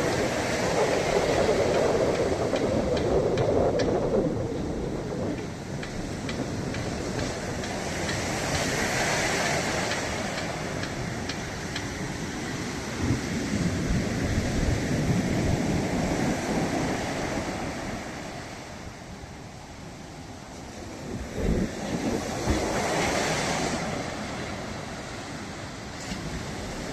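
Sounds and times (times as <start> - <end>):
ocean waves breaking: 0.0 - 26.9.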